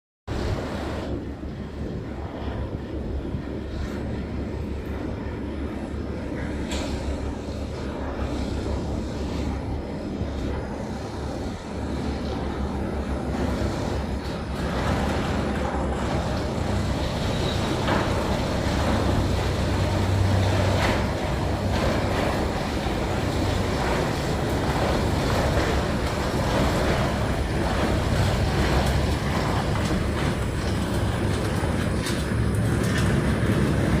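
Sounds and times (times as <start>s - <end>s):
ride rumbling with low hum: 0.3s - 34.0s.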